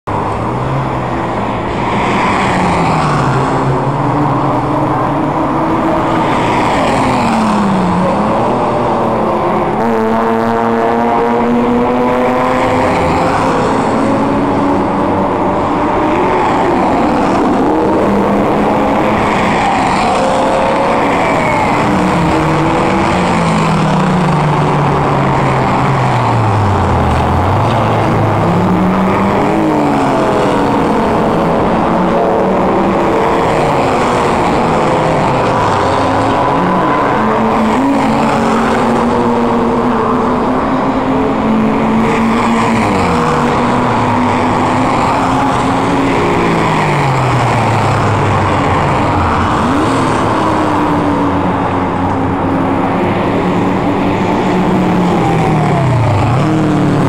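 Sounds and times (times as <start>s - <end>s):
racing car engines: 0.0s - 57.0s.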